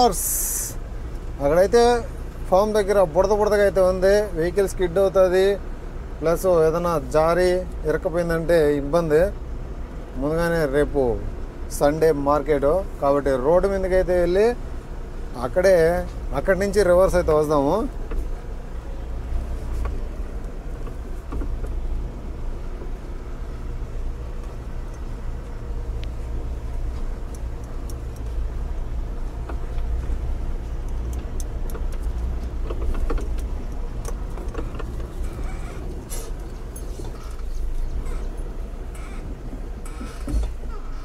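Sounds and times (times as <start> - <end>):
truck engine running: 0.0 - 41.0.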